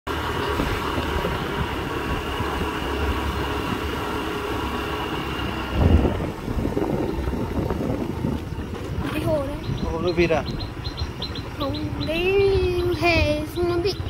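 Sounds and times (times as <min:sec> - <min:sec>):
motorbike engine hum: 0:00.1 - 0:14.0
wind buffeting microphone: 0:00.1 - 0:14.0.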